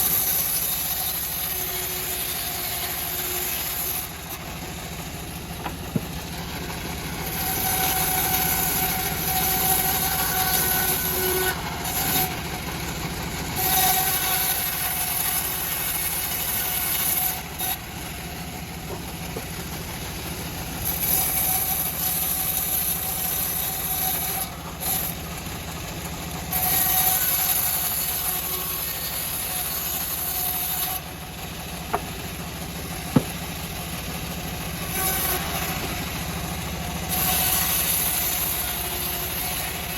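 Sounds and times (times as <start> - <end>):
bandsaw mill cutting wood: 0.0 - 39.9.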